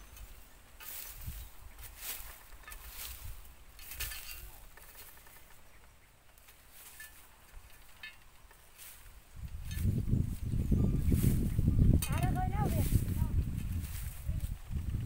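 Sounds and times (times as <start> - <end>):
hoe scraping through dry leaves: 0.0 - 15.0.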